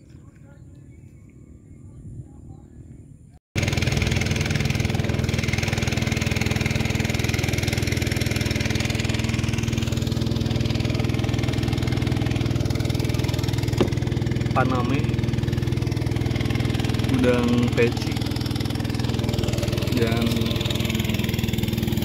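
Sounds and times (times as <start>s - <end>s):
small engine running: 3.6s - 22.0s.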